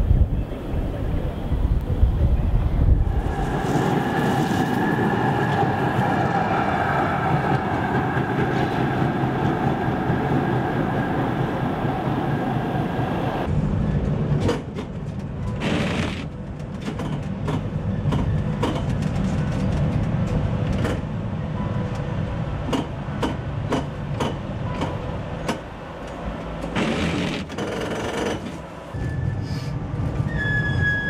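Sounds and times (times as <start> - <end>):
tram rolling on tracks: 0.0 - 31.0.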